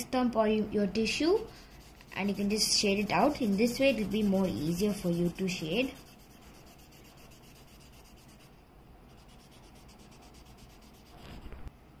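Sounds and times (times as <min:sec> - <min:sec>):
pencil rubbing on paper: 0:01.0 - 0:11.6.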